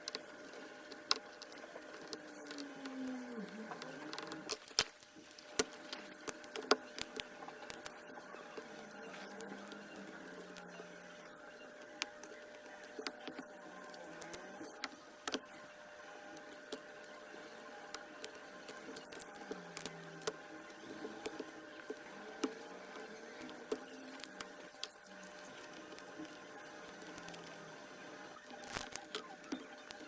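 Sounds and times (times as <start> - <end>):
faint machine hum: 0.0 - 30.0.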